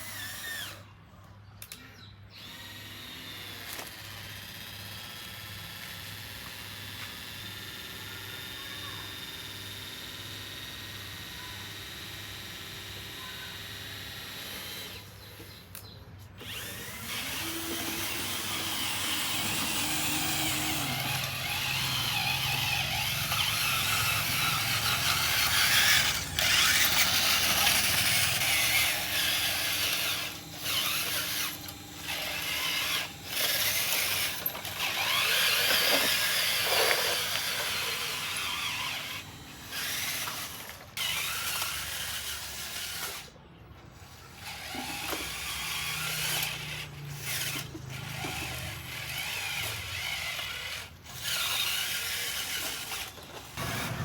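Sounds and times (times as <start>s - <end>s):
small electric motors whirring: 0.0s - 1.0s, 1.6s - 54.0s.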